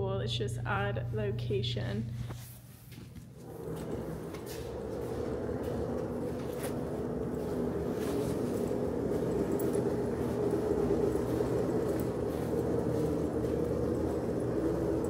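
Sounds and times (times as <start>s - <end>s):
ventilation hum: 0.0s - 15.0s.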